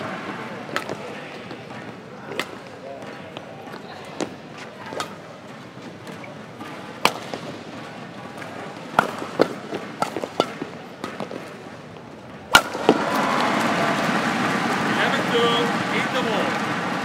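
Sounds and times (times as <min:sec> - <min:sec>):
crowd noise: 0:00.0 - 0:17.0
rackets hitting shuttlecock: 0:00.0 - 0:17.0.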